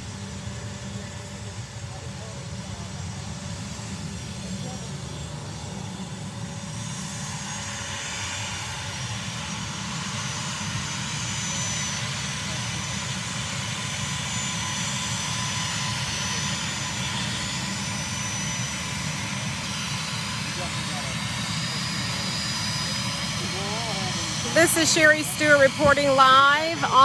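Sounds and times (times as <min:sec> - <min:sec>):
high engine whine: 0:00.0 - 0:27.0
turboprop plane engine: 0:00.0 - 0:27.0.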